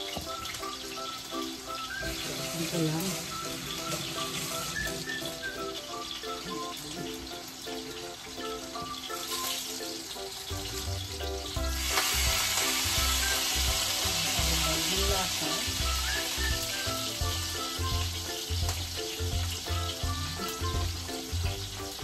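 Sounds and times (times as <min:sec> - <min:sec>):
background music: 0:00.0 - 0:22.0
steak sizzling in a pan: 0:00.0 - 0:22.0.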